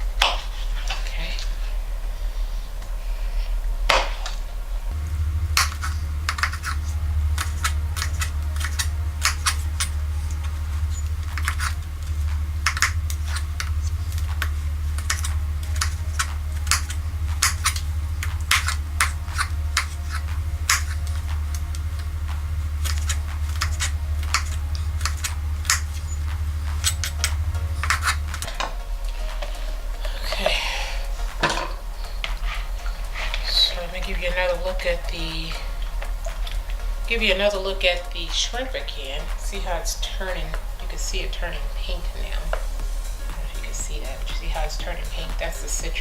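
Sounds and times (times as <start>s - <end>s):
low hum: 0.0s - 46.0s.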